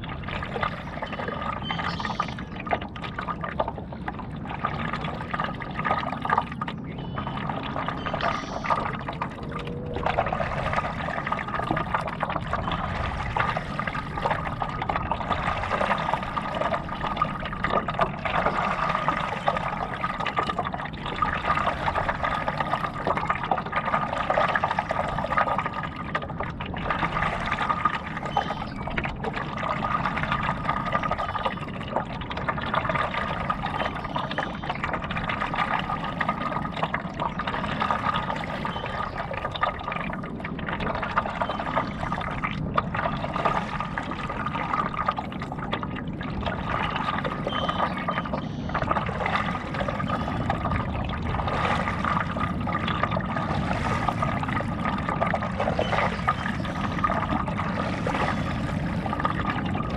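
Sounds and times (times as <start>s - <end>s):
water splashing against paddleboard: 0.0s - 59.9s.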